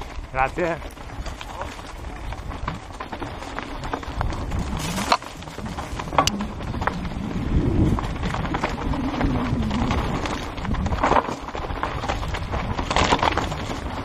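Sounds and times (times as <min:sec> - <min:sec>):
bike rattling and knocking: 0:00.0 - 0:14.0
tyres crunching over stones: 0:00.0 - 0:14.0
wind rush on microphone: 0:00.0 - 0:14.0.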